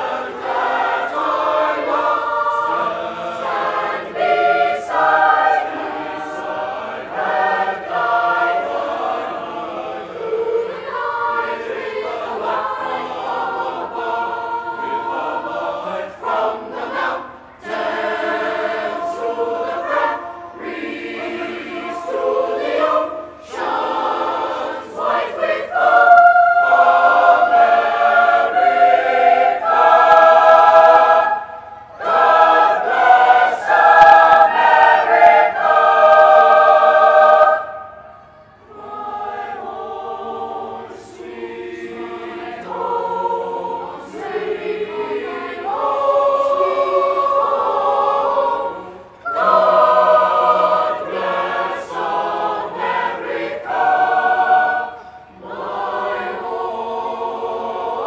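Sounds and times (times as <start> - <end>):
boys' choir singing in harmony: 0.0 - 58.0.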